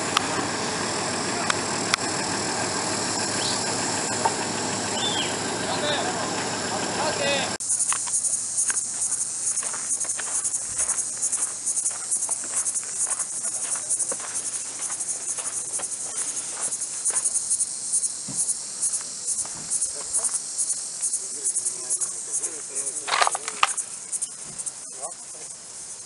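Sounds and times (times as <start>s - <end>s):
insects shrilling: 0.0s - 26.0s.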